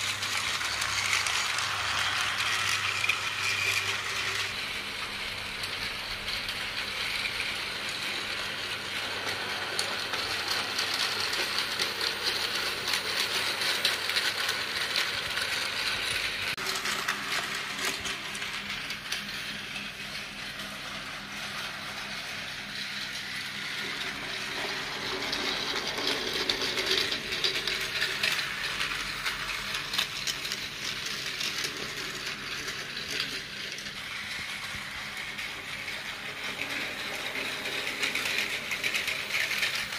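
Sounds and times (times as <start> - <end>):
toy train motor whirring: 0.0 - 39.9
wheels clicking on plastic track: 0.0 - 39.9.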